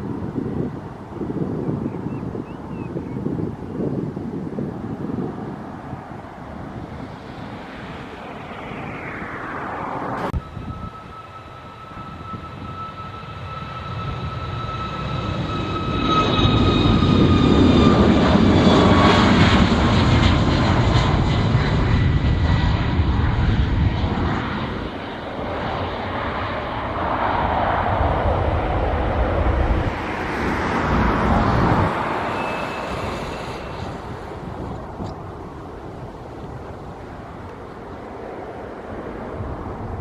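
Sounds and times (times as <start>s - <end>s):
airliner engines passing by: 0.0s - 40.0s.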